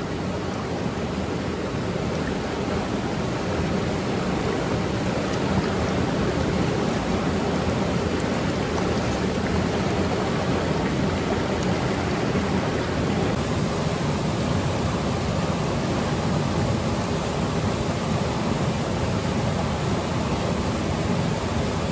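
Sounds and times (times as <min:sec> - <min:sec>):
water rushing: 0:00.0 - 0:21.9.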